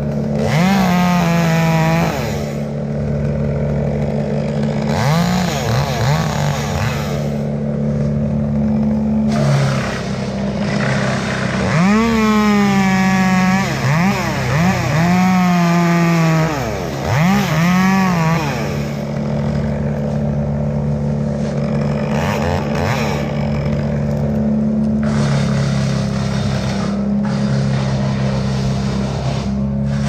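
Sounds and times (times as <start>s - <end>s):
chainsaw revving: 0.0s - 30.0s
engine humming: 0.0s - 30.0s.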